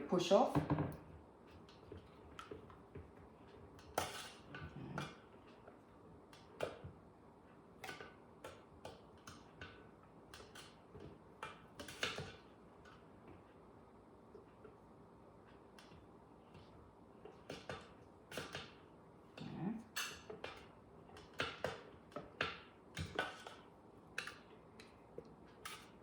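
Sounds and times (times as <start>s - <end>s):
utensil tapping and scraping bowl: 0.1s - 13.6s, 15.4s - 26.0s.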